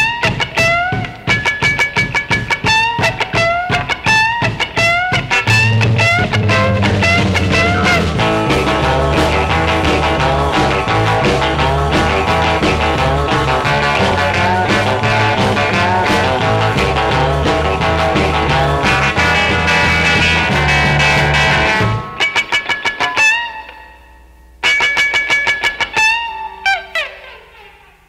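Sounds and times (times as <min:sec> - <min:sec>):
rock and roll guitar instrumental: 0:00.0 - 0:28.0.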